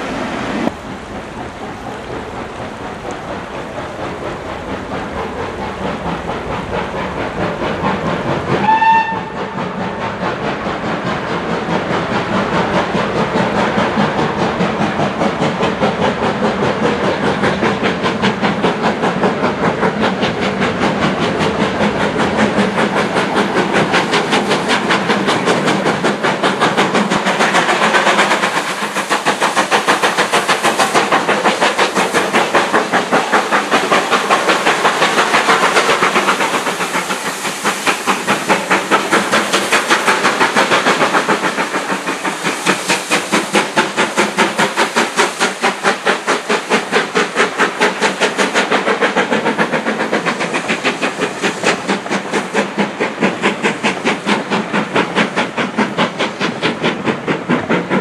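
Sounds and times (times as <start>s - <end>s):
hiss of steam: 0.0s - 58.0s
steam locomotive exhaust beating: 0.0s - 58.0s.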